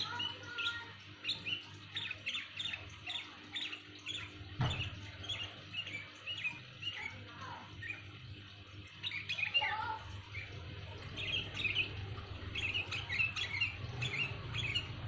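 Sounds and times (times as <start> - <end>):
bird chirping calls: 0.0 - 15.0.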